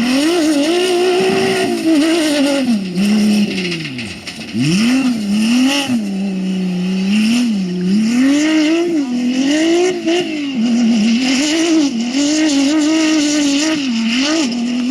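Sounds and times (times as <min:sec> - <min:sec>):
race vehicle engine revving: 0:00.0 - 0:14.9.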